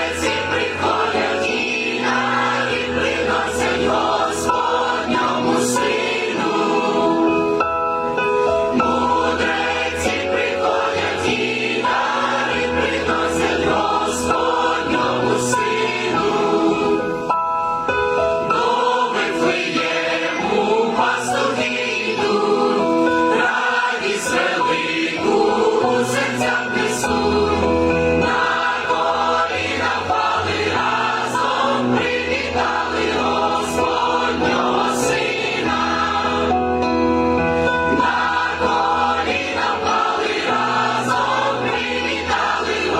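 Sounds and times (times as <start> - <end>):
choir singing a carol: 0.0 - 42.9.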